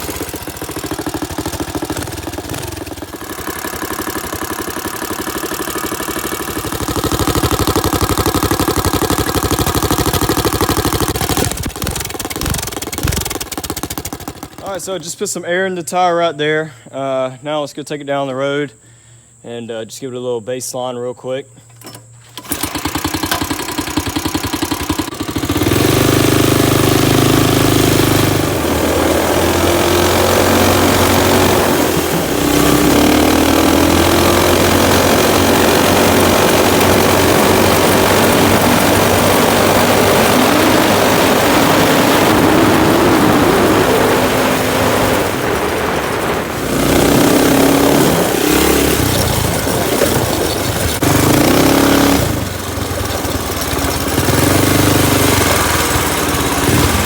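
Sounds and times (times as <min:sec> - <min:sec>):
engine revving: 0:00.0 - 0:14.9, 0:22.4 - 0:57.0
exhaust popping: 0:00.0 - 0:15.7, 0:21.6 - 0:57.0.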